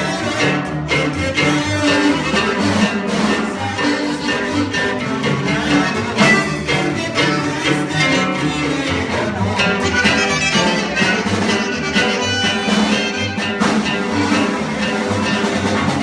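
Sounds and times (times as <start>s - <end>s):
live band playing: 0.0s - 16.0s
steady bass rhythm: 0.0s - 16.0s.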